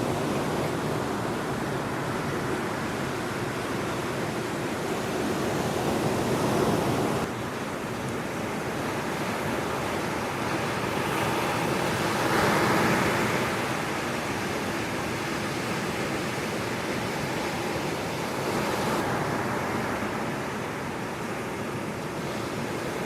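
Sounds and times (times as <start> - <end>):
ocean surf breaking on shore: 0.0 - 23.0.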